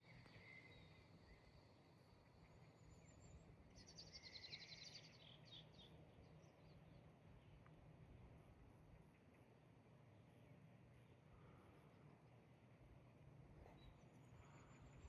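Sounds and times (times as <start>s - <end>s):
low steady hum: 0.0s - 15.0s
songbird song: 0.0s - 15.0s.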